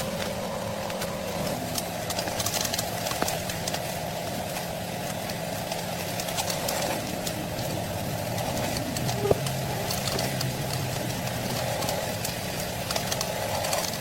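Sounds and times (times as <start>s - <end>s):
welding arc humming and crackling: 0.0s - 14.0s.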